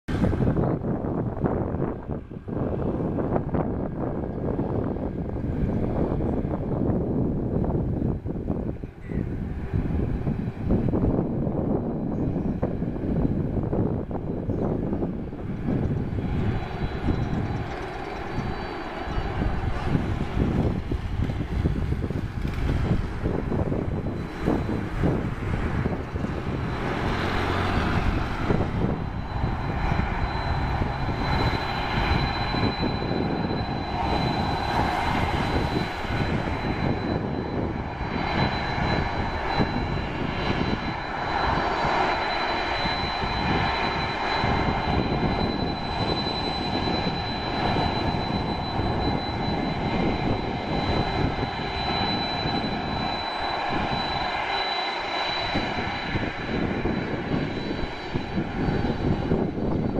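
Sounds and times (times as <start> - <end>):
jet engines whining: 0.1 - 59.9.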